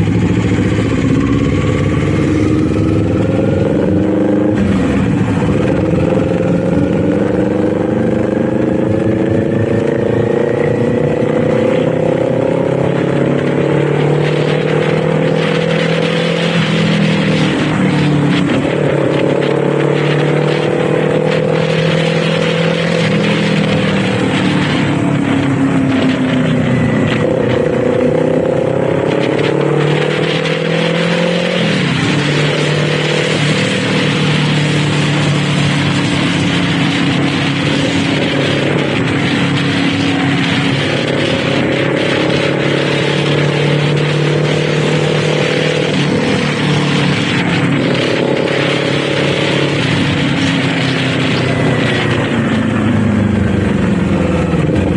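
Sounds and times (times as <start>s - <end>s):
motorcycle engine revving: 0.0s - 54.9s
wind and road noise: 0.0s - 54.9s.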